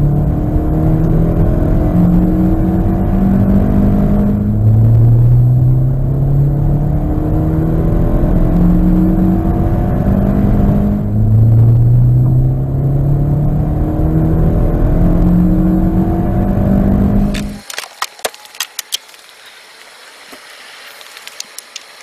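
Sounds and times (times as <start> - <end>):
car engine revving at full throttle: 0.0 - 17.6.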